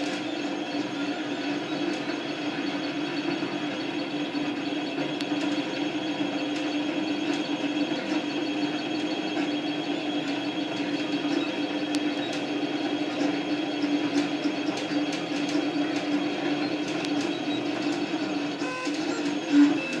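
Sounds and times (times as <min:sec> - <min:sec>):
stepper motors humming: 0:00.0 - 0:20.0.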